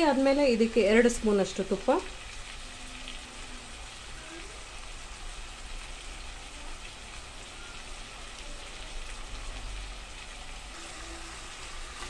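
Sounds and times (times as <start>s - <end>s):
crackling sizzle of frying: 0.0s - 12.0s.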